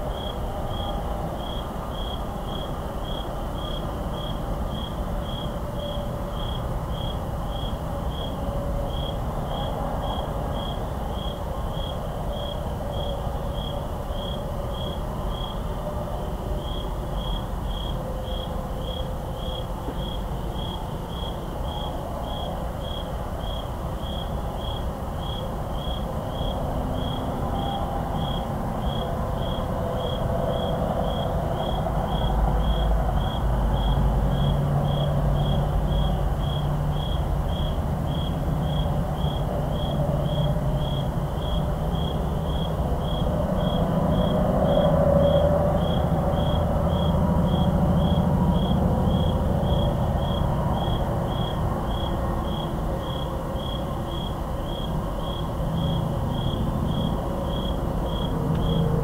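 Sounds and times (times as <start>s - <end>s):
crickets chirping: 0.0s - 59.0s
distant highway traffic rumble: 0.0s - 59.0s.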